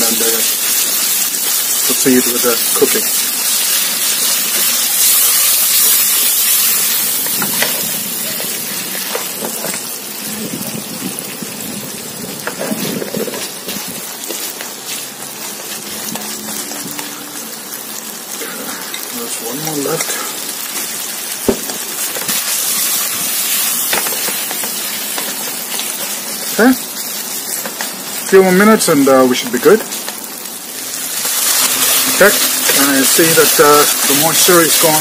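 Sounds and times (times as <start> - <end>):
chicken sizzling in oil: 0.0 - 35.0.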